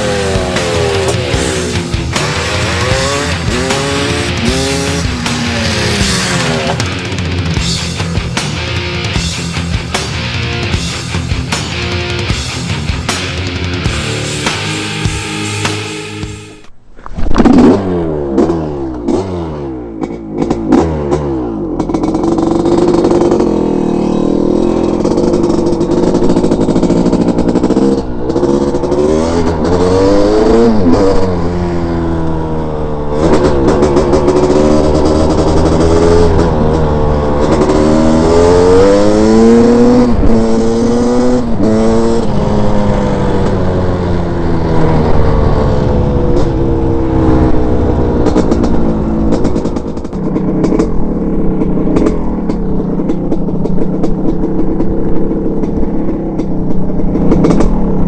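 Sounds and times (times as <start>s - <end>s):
dirt bike engine revving: 0.0s - 16.7s, 17.4s - 58.0s.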